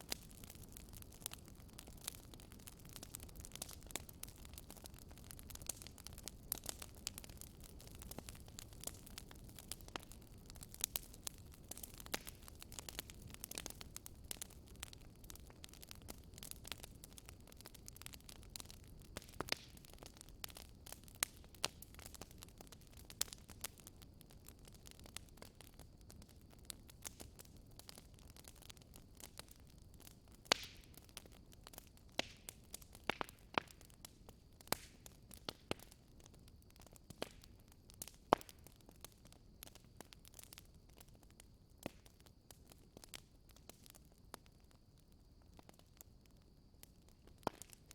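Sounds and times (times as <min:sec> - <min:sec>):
low steady hiss: 0:00.0 - 0:47.9
wood fire crackling: 0:00.0 - 0:47.9.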